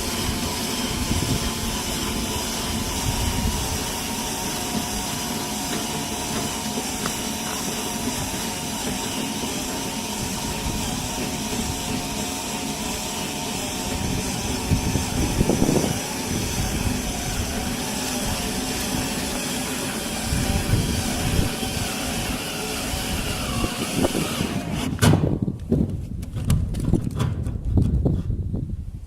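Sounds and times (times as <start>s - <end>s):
drill boring through metal: 0.0s - 25.0s.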